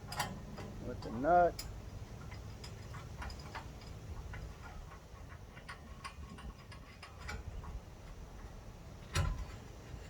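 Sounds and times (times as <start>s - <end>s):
small metal hardware clicking: 0.0s - 8.2s.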